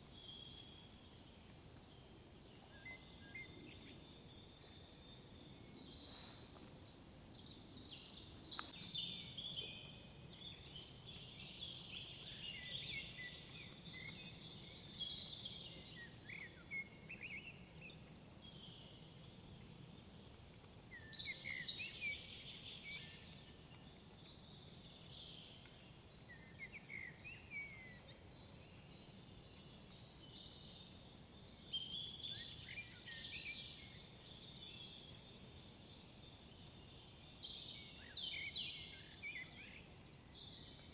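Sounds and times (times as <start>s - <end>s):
quiet bird chirps: 0.0s - 40.9s
songbirds singing with trills: 0.0s - 40.9s.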